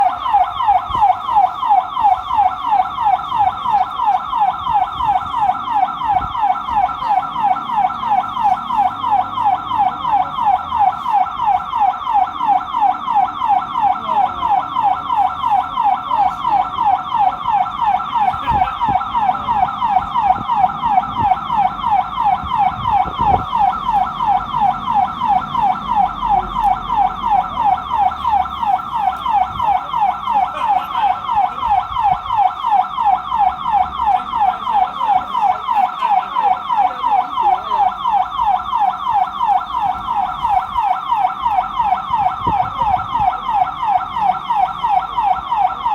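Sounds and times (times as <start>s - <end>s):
bus alarm siren sweeping: 0.0s - 45.9s.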